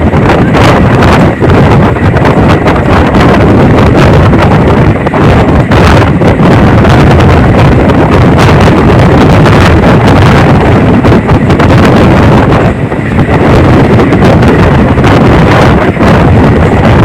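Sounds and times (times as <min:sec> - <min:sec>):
train running rumble: 0:00.0 - 0:17.0
wind buffeting microphone: 0:00.0 - 0:17.0.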